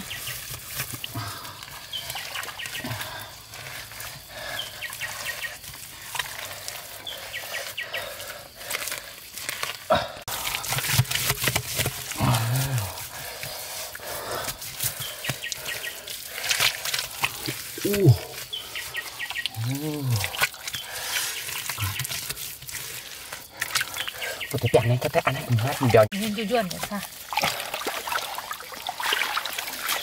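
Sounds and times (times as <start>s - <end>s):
hands slapping wet mud: 0.0s - 30.0s.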